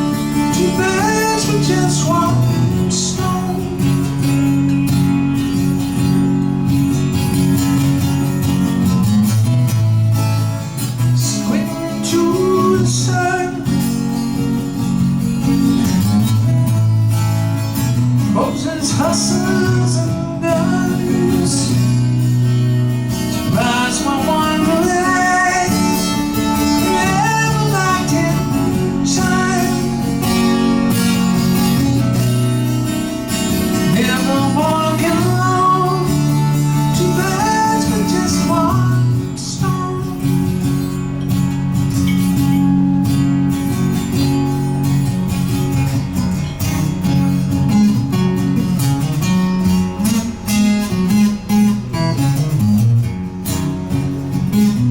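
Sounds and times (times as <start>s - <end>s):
acoustic guitar strumming chords: 0.0s - 54.9s
guitar melody with bending notes: 0.0s - 54.9s.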